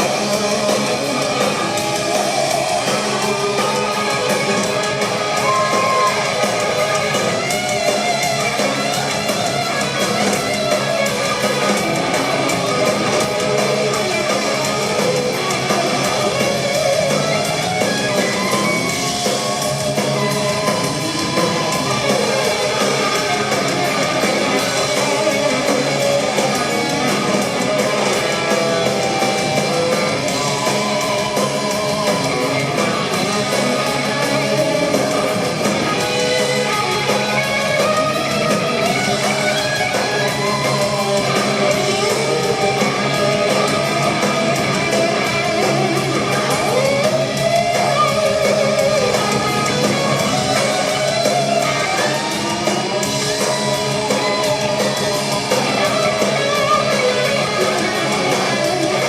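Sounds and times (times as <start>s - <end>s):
electric guitar lead line: 0.0s - 59.0s
hard rock band playing: 0.0s - 59.0s.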